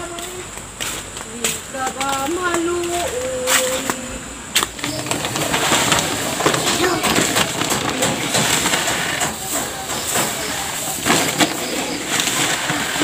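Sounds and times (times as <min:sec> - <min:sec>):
plastic bag and sack rustling: 0:00.0 - 0:13.0.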